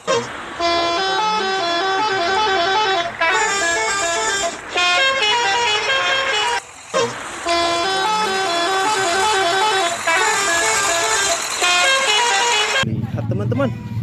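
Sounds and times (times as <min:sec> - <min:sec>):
multi-tone bus horn melody: 0:00.0 - 0:12.9.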